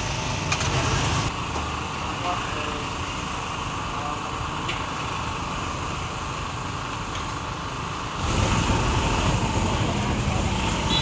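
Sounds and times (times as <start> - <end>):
vehicle engine noise: 0.0 - 11.0.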